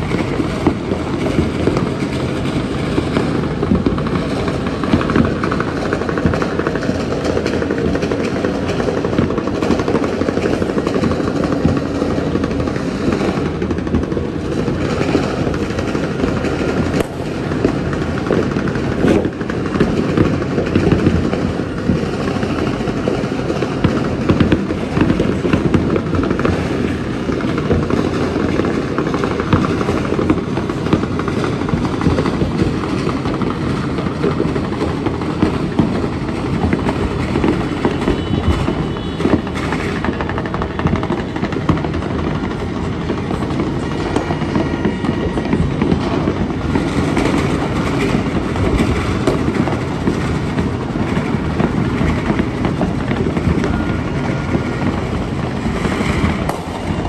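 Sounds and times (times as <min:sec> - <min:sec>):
fireworks crackling and rumbling: 0:00.0 - 0:57.0.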